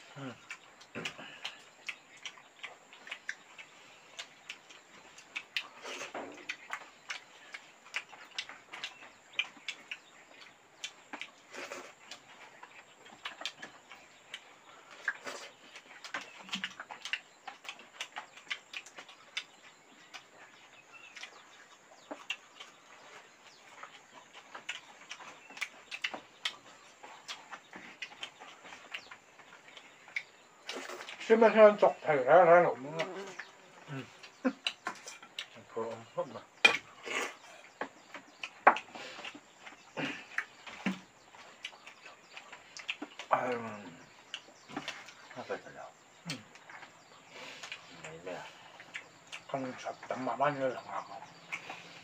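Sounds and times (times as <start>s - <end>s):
wet chewing and lip-smacking: 0.0s - 31.2s, 32.9s - 35.6s, 36.4s - 50.1s, 50.8s - 52.0s.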